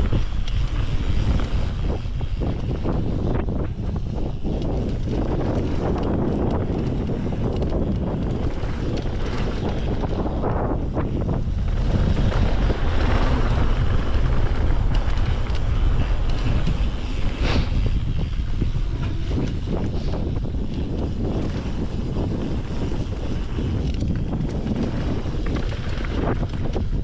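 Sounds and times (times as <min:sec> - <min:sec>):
bike knocks and rattles: 0:00.0 - 0:27.0
tyres rumbling on dirt: 0:00.0 - 0:27.0
wind buffeting microphone: 0:00.0 - 0:27.0.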